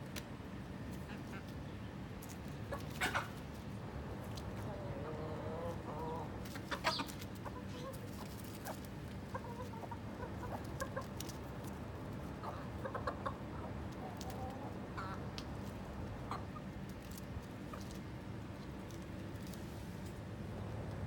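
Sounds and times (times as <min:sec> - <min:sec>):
chickens clucking softly: 0:00.1 - 0:21.0.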